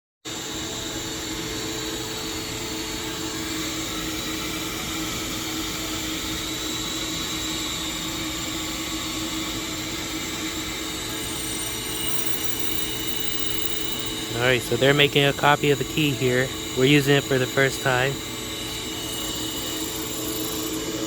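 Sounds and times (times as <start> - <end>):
key-duplicating machine whirring: 0.5 - 21.0.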